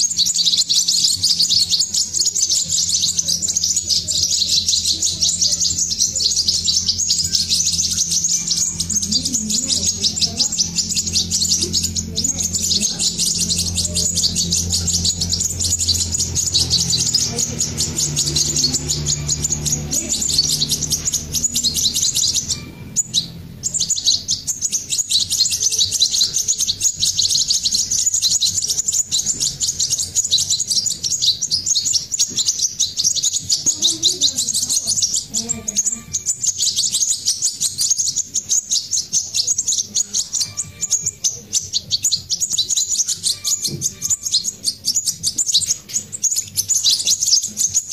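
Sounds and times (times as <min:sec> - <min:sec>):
nestlings begging chirps: 0:00.0 - 0:47.9.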